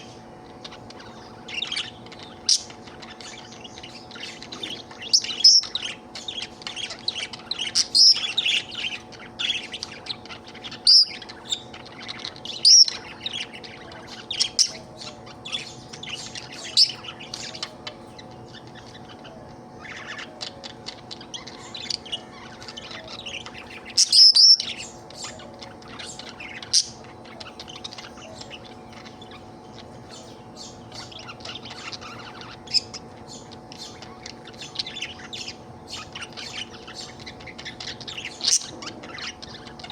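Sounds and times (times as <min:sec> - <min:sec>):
budgerigar chirping and warbling: 0:00.0 - 0:39.9
faint steady hum: 0:00.0 - 0:39.9.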